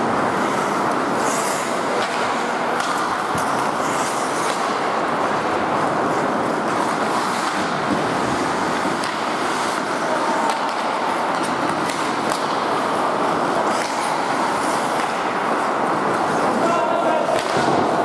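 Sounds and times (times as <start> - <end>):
hockey sticks and puck clicking: 0.0 - 18.0
skates scraping ice: 0.0 - 18.0.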